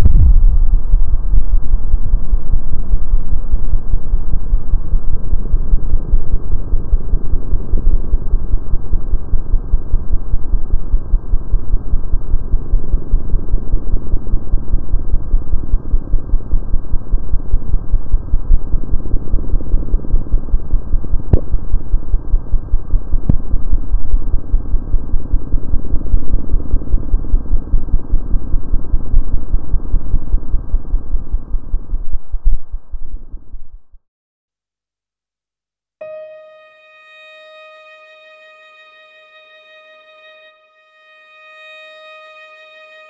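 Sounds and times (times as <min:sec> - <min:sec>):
low throbbing drone: 0:00.0 - 0:32.0, 0:36.0 - 0:43.0.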